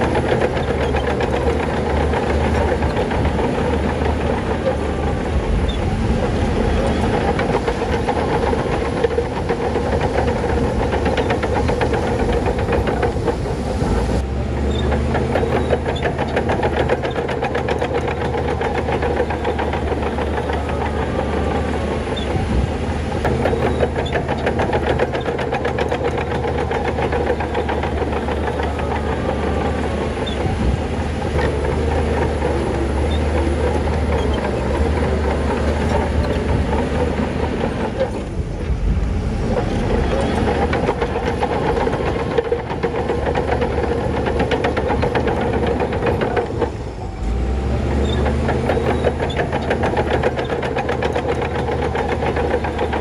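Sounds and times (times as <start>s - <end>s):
diesel engine running: 0.0s - 53.0s
steel tracks clattering: 0.0s - 53.0s.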